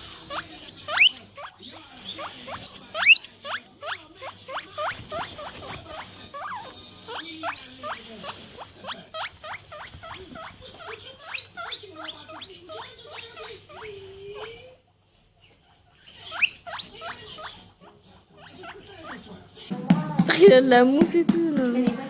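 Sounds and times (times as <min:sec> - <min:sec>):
small animal squeaking: 0:00.0 - 0:19.7.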